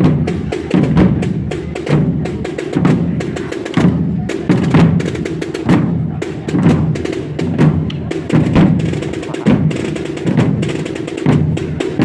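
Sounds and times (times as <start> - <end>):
drum band marching beat: 0.0 - 12.0.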